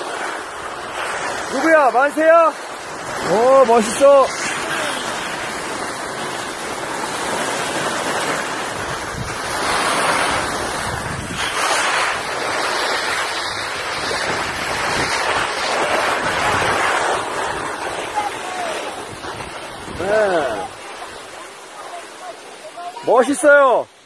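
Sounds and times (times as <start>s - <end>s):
wind rushing over microphone: 0.0s - 21.8s
skis hissing over snow: 0.0s - 24.0s.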